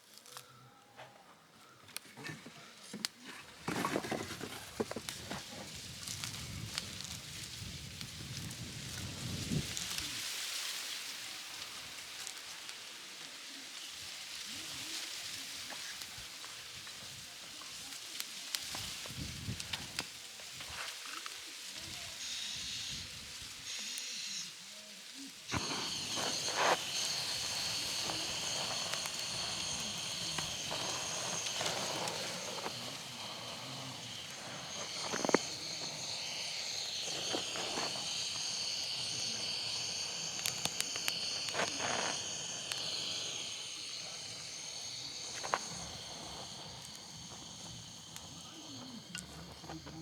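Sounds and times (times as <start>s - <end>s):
high-pitched hiss: 0.0s - 50.0s
campfire crackling and popping: 3.0s - 12.8s, 15.7s - 22.1s, 25.4s - 50.0s.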